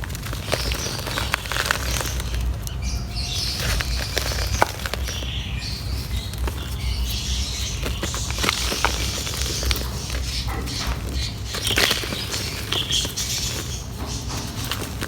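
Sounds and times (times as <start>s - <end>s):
dry mud crumbling by hand: 0.0s - 15.0s.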